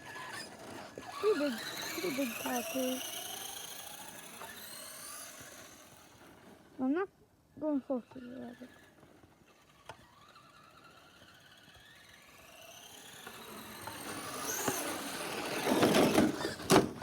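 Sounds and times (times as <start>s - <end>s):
electric motor whining: 0.0s - 6.8s, 7.7s - 17.0s.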